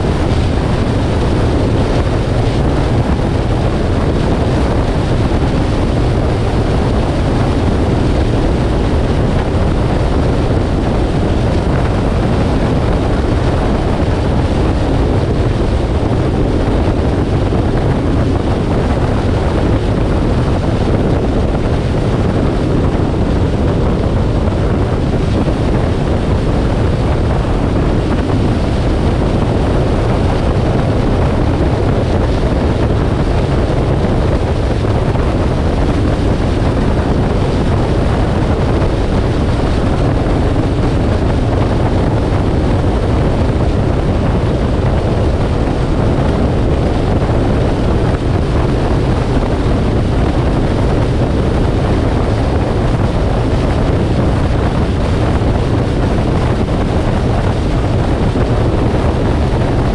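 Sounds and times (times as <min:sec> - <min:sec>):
wind and road noise: 0:00.0 - 0:59.9
wind buffeting microphone: 0:00.0 - 0:59.9.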